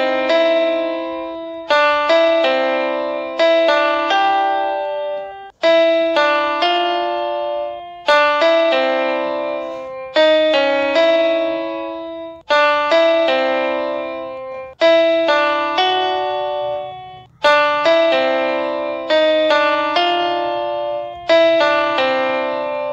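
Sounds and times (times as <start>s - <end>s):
piano-like keyboard melody: 0.0s - 22.9s.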